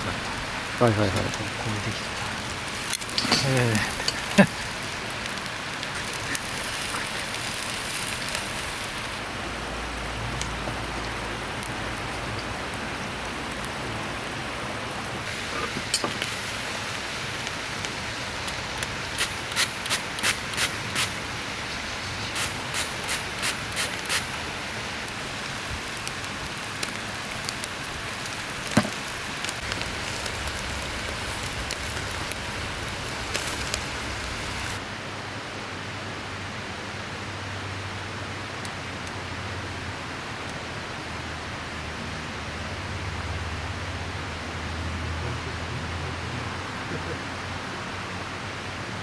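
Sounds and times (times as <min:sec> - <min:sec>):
mountain river rushing: 0:00.0 - 0:49.0.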